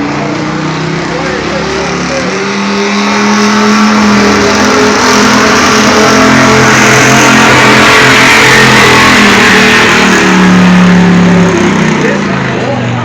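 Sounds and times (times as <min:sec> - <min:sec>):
truck engine running at high revs: 0:00.0 - 0:13.0.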